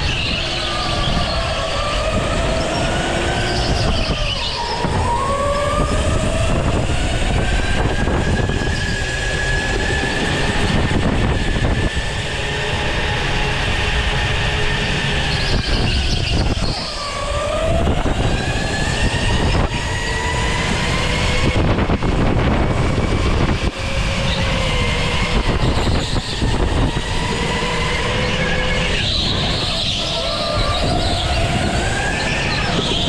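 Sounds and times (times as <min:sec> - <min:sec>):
go-kart motor whine: 0:00.0 - 0:33.0.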